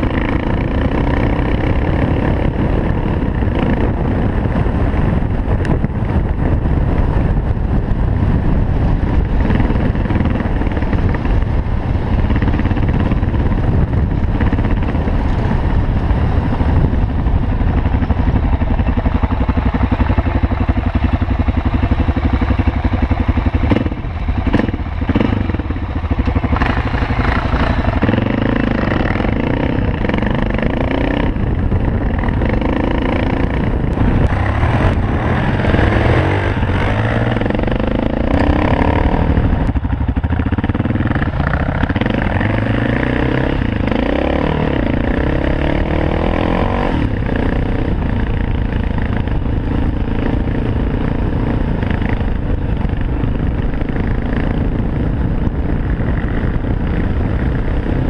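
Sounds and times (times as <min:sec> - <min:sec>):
dirt bike engine revving: 0:00.0 - 0:07.3, 0:08.2 - 0:58.0.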